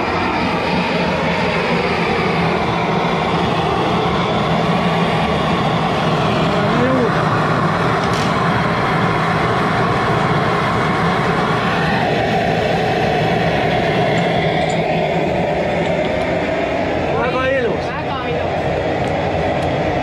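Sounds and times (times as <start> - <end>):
gas torch flame rushing: 0.0 - 20.0.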